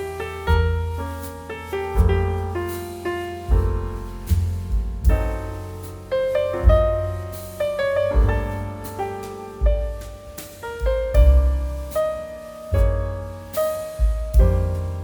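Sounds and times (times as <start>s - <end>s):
piano piece: 0.0s - 15.0s.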